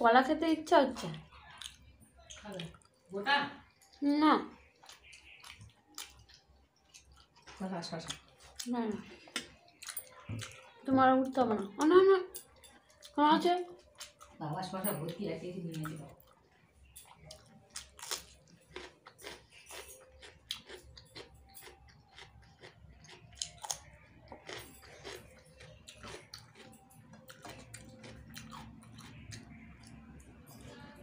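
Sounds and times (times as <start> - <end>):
person chewing food: 1.0 - 10.8, 11.6 - 14.4, 15.7 - 31.0.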